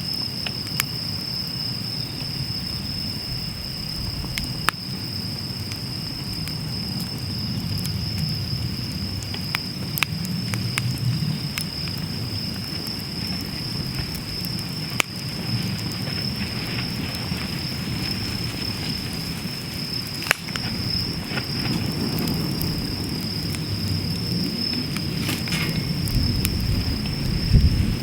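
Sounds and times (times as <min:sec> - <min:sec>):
fire crackling and popping: 0:00.0 - 0:28.0
flames rushing: 0:00.4 - 0:28.0.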